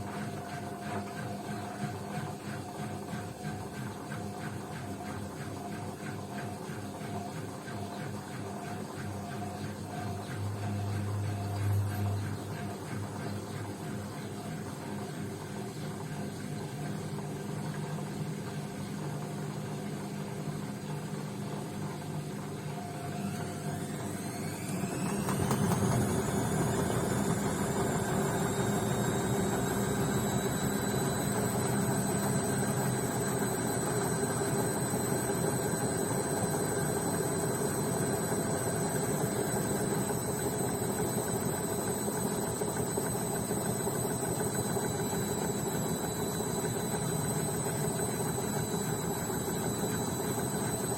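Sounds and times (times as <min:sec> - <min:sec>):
washing machine drum hum: 0:00.0 - 0:50.9
washing machine motor whining: 0:00.0 - 0:50.9.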